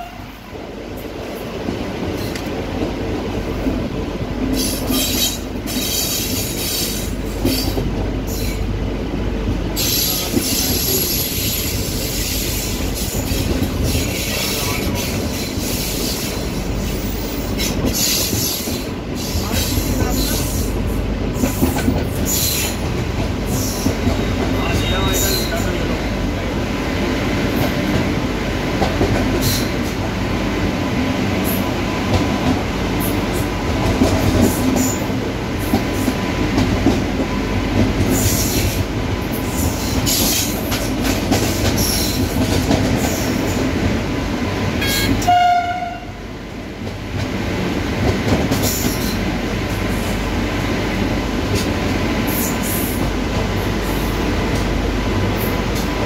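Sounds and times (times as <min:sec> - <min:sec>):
freight train passing: 0:00.0 - 0:56.0
locomotive and rail rumble: 0:00.0 - 0:56.0.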